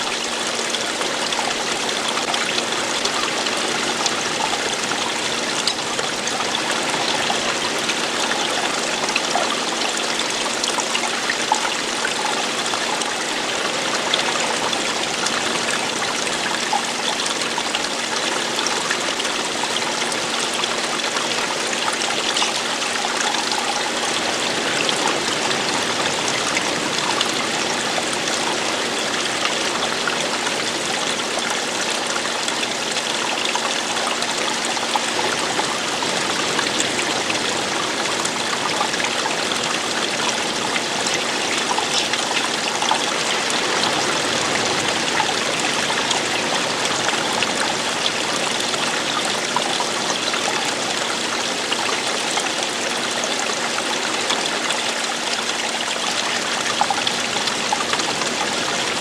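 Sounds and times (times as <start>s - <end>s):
running water flowing: 0.0s - 59.0s.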